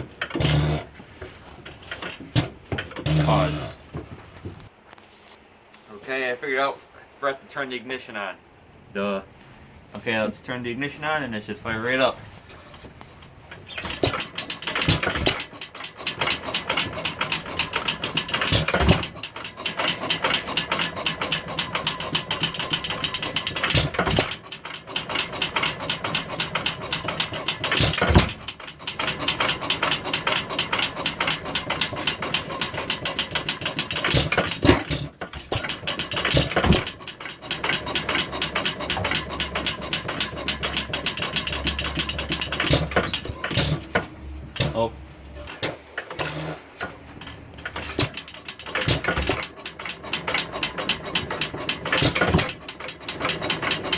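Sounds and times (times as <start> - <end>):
stationary engine clattering: 0.0 - 4.7, 11.7 - 53.9.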